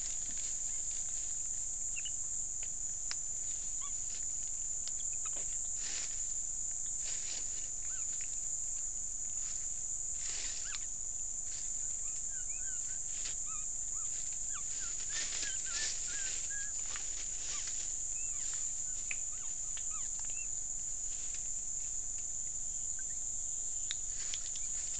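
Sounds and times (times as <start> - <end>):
rustles: 0.0 - 22.4, 23.9 - 24.9
insect drone: 0.0 - 24.9.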